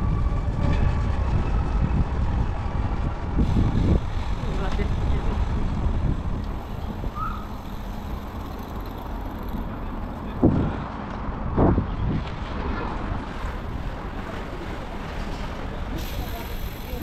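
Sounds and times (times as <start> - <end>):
wind and road noise rumble: 0.0 - 17.0.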